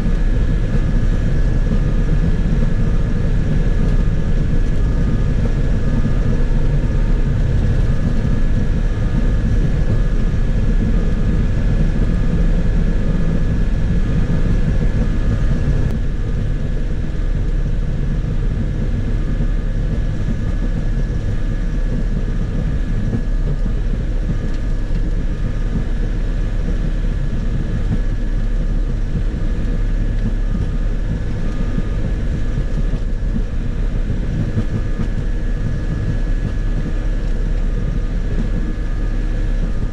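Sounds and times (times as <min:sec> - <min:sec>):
high whine: 0:00.0 - 0:39.9.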